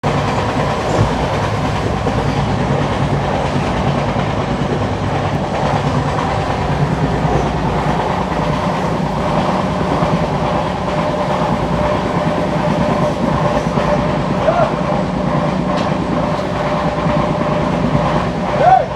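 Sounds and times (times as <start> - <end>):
train running: 0.0 - 18.9.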